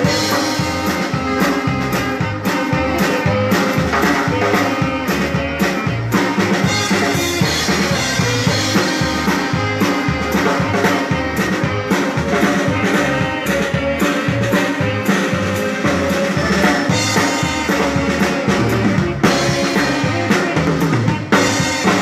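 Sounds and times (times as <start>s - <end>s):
brass instruments playing: 0.0s - 22.0s
drum kit beat: 0.0s - 22.0s.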